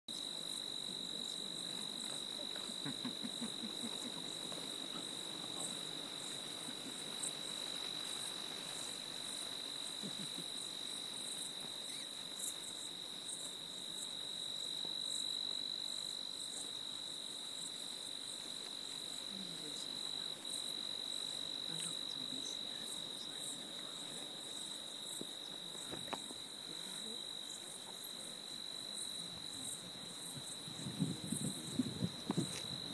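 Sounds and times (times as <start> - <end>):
insect trill: 0.1 - 32.9.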